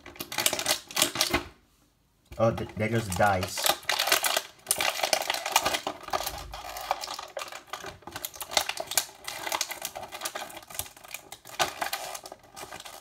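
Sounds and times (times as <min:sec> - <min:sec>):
plastic packaging clicking and crackling: 0:00.0 - 0:01.6, 0:02.3 - 0:13.0.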